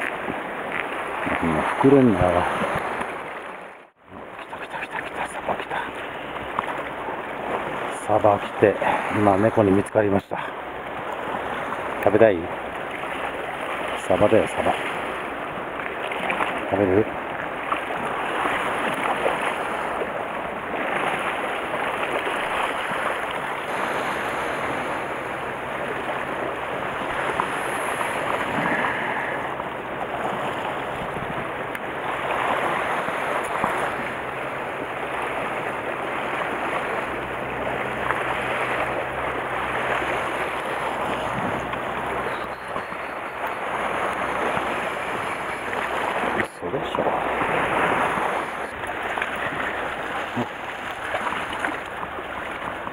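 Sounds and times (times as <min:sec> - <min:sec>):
waves splashing on rocks: 0:00.0 - 0:52.9.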